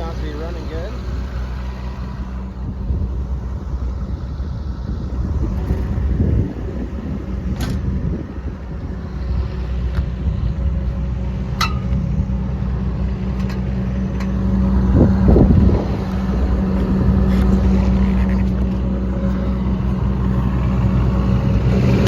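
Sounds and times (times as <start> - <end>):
excavator diesel engine idling: 0.0 - 22.0.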